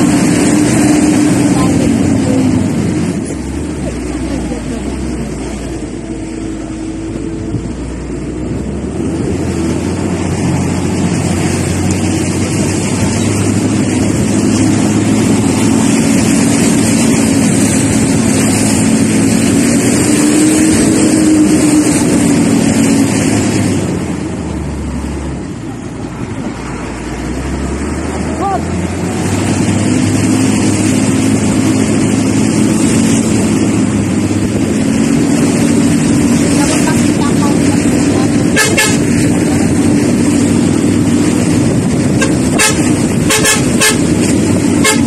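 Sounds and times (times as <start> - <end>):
road noise: 0.0 - 45.0
truck engine running hard: 0.0 - 45.0
wind: 0.0 - 45.0.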